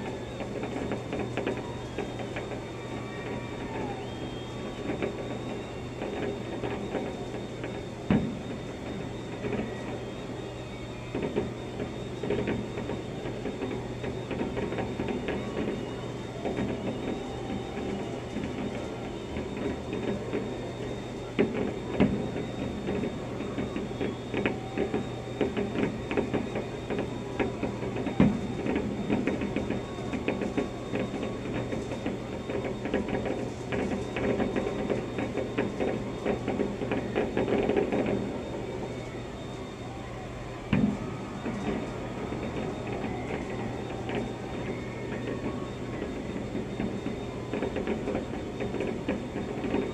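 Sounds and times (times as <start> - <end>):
heavy fireworks thumps: 0.0 - 10.5, 11.1 - 39.3, 40.7 - 49.9
fireworks crackling and popping: 0.0 - 39.8, 40.7 - 49.9
steady low hum: 0.0 - 49.9.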